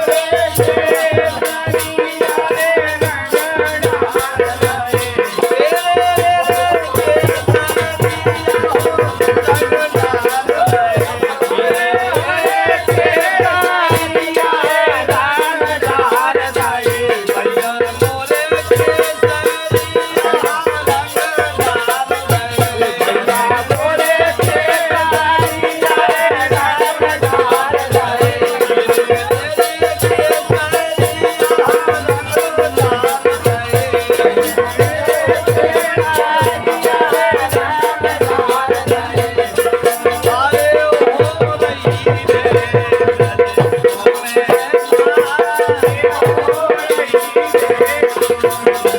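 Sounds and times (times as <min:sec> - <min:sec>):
jingling cymbals: 0:00.0 - 0:42.1
drum beat: 0:00.0 - 0:48.9.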